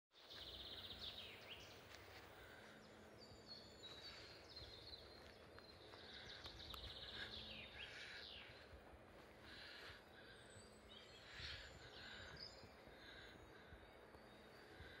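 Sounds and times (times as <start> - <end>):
birds trilling and whistling: 0.2 - 15.0.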